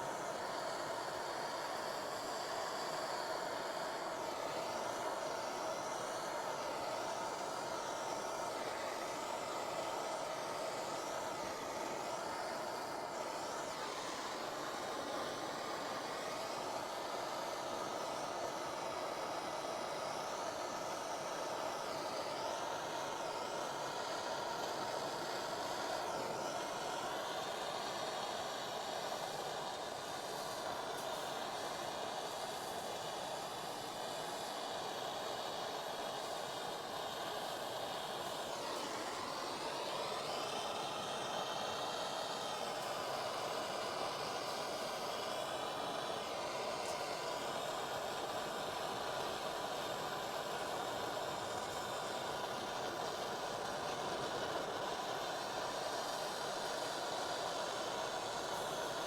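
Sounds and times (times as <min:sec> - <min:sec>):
gas torch flame hissing: 0:00.0 - 0:59.0.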